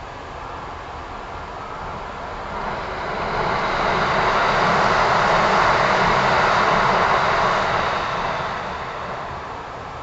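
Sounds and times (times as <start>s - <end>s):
train rushing rumble: 0.0s - 10.0s.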